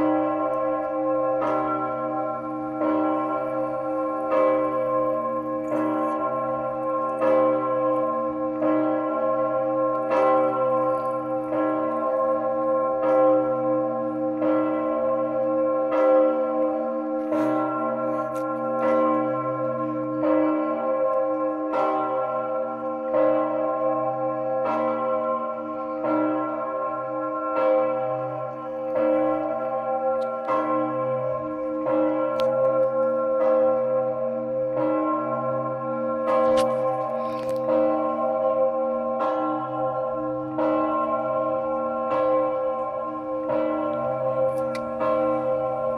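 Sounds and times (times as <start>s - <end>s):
large bell ringing: 0.0s - 45.9s.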